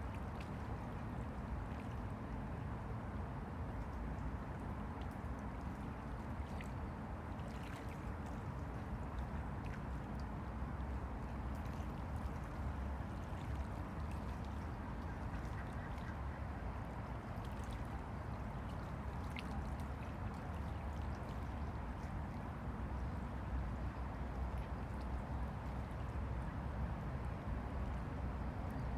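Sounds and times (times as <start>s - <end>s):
waves lapping against bank: 0.0s - 28.9s.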